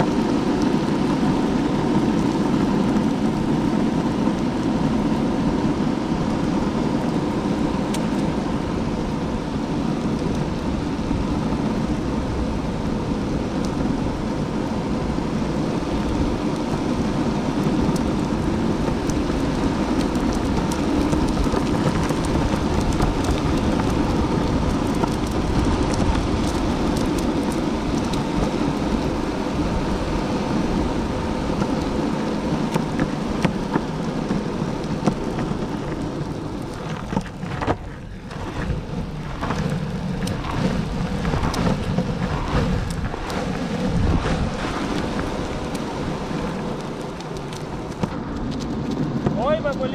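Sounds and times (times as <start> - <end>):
longboard wheels rolling on pavement: 0.0 - 49.9.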